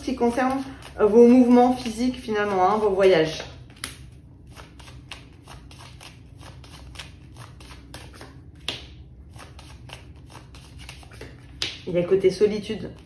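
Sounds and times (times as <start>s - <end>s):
cards being shuffled: 0.0s - 11.9s.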